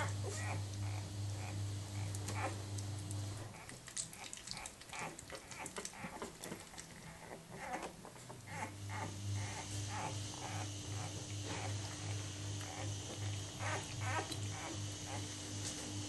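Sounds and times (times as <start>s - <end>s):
puppies squeaking and grunting: 0.0s - 2.7s, 3.4s - 15.4s
low steady hum: 0.0s - 16.0s.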